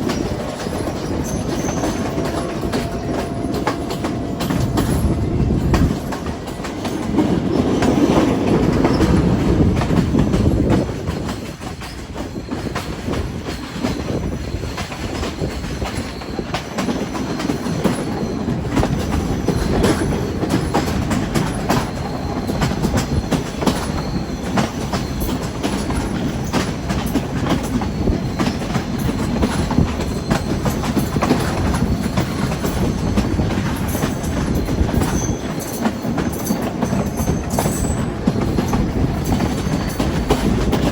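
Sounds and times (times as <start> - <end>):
train rumble: 0.0 - 40.9
wheels clacking over rail joints: 0.0 - 40.9.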